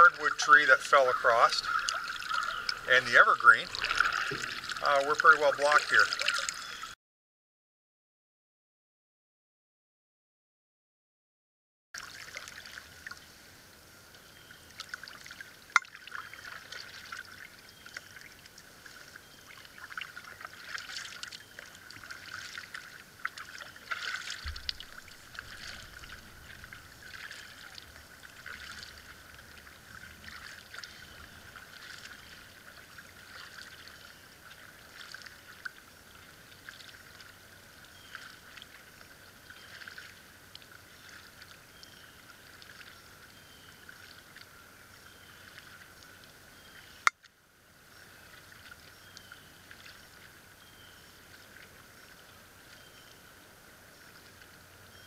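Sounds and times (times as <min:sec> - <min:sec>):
paddle splashes and drips: 0:00.0 - 0:07.0, 0:12.0 - 0:55.0.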